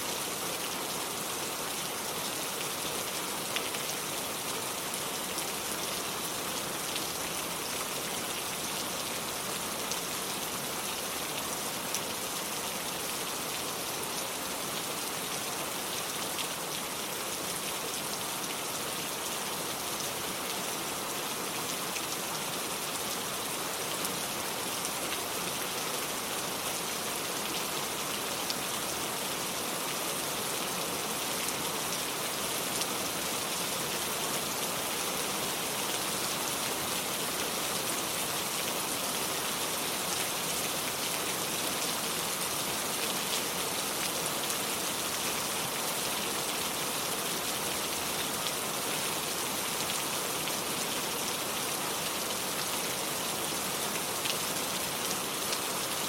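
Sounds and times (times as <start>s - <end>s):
rain falling on cobblestones: 0.1s - 56.0s.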